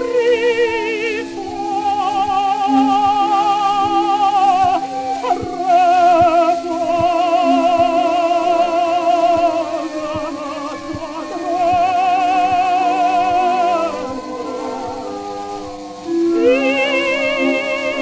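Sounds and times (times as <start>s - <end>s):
instrumental accompaniment: 0.0s - 18.0s
record surface noise: 0.0s - 18.0s
woman singing opera: 0.0s - 18.0s.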